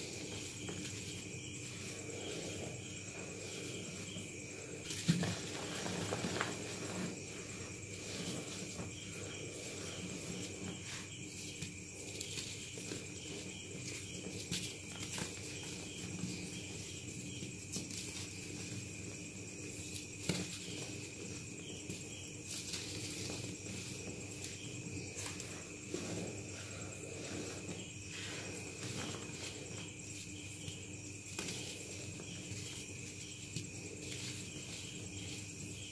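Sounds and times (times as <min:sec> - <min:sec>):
chalk crunching: 0:00.0 - 0:18.8, 0:19.8 - 0:35.9.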